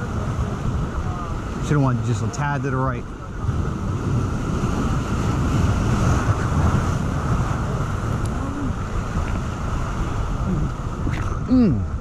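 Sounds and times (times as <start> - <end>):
surf breaking over rocks: 0.0 - 12.0
wind rumbling on microphone: 0.0 - 12.0.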